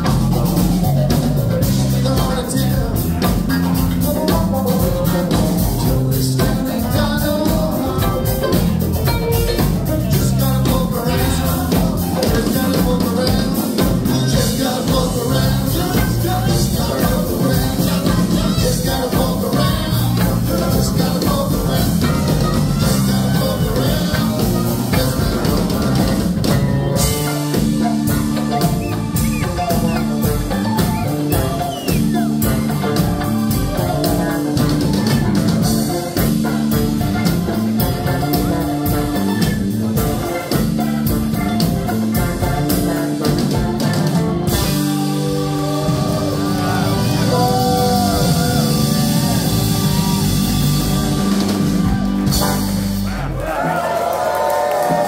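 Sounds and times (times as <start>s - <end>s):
live rock band playing: 0.0s - 55.0s
lead guitar bending notes: 7.8s - 53.3s.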